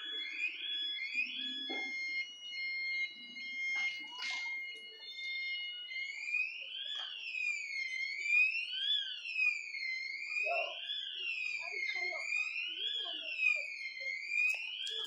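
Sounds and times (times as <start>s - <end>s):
electronic siren wailing: 0.0s - 15.0s.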